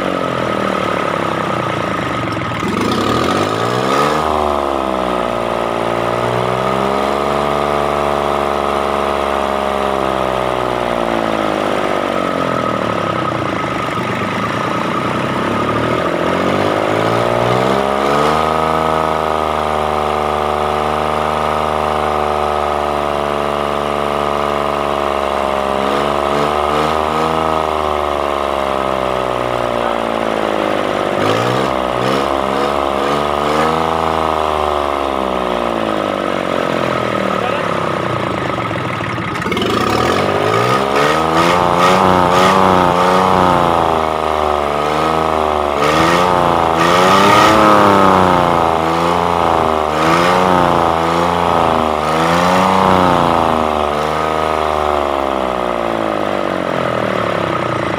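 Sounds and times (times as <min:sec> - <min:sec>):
diesel engine idling and revving: 0:00.0 - 0:57.9.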